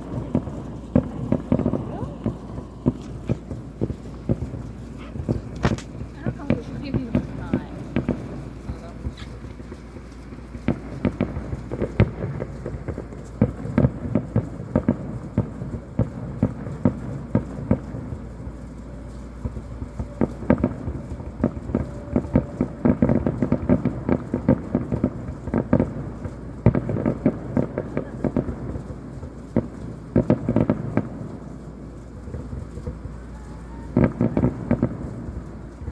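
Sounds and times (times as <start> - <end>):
distant fireworks bangs and crackles: 0.0 - 35.9.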